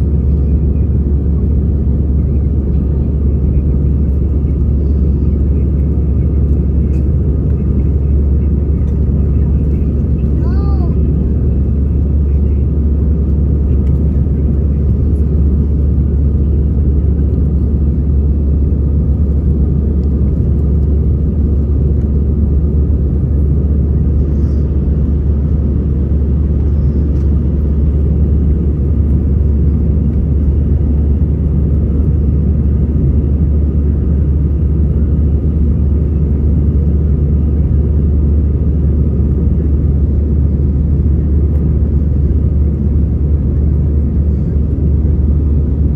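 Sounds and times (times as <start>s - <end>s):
airplane cabin engine rumble: 0.0s - 45.9s.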